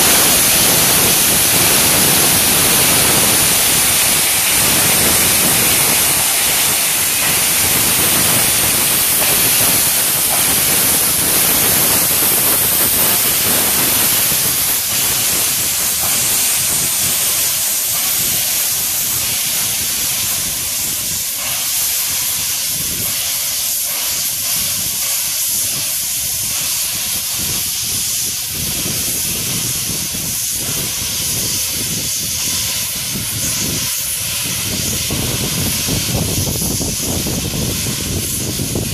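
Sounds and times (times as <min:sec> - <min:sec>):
steam locomotive blowing off steam: 0:00.0 - 0:38.9.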